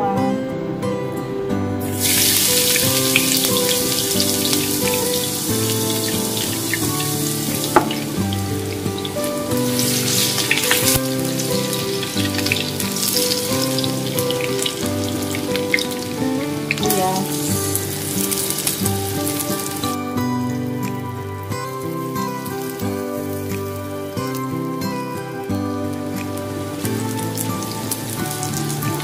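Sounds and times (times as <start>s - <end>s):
background music: 0.0s - 29.0s
garlic sizzling in oil: 1.8s - 29.0s.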